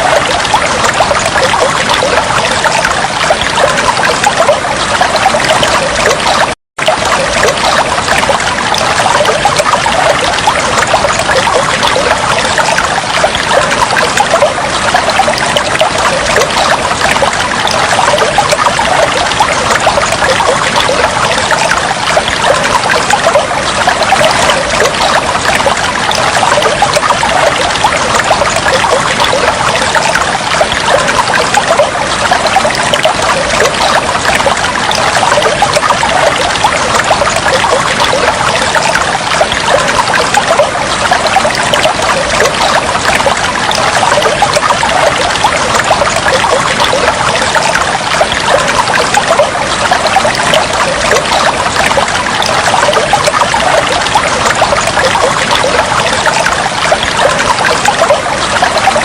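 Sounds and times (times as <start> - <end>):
water trickling and flowing: 0.0 - 59.0.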